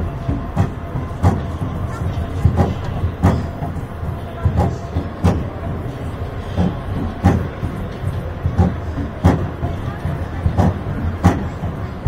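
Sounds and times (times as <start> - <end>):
roller coaster lift rumble: 0.0 - 12.0.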